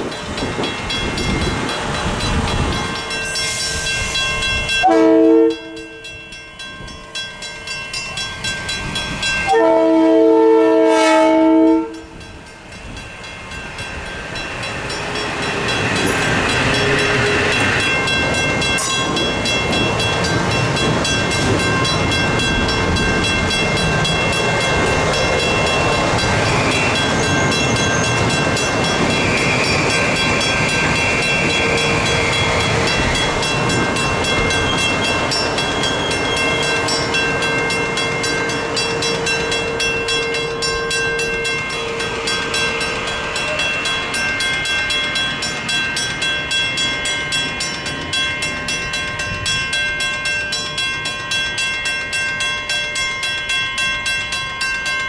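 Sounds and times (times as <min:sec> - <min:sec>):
high steady tones: 0:00.0 - 0:10.0, 0:11.2 - 0:55.0
train wheels rumbling on rail: 0:00.0 - 0:55.0.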